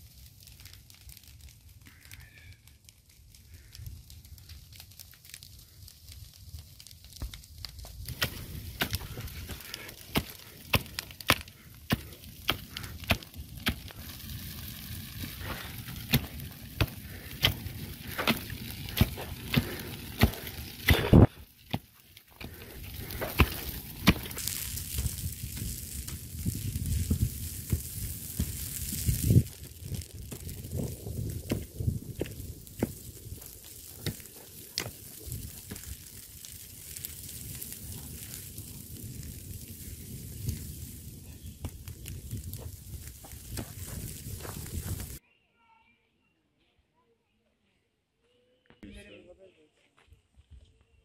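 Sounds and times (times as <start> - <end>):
brush fire crackling: 0.0 - 45.2.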